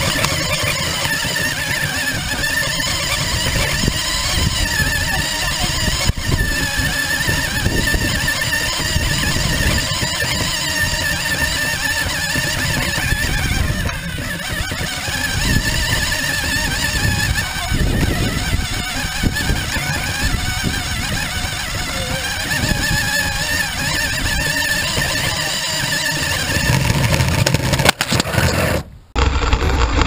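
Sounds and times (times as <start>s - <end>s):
toy car motor whining: 0.0s - 30.0s.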